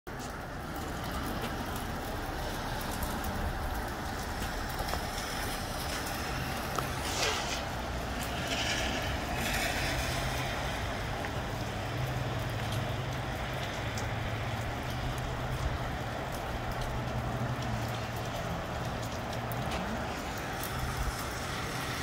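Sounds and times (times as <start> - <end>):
raindrop ticks: 0.1 - 22.0
steady rain: 0.1 - 22.0
wind: 0.1 - 22.0.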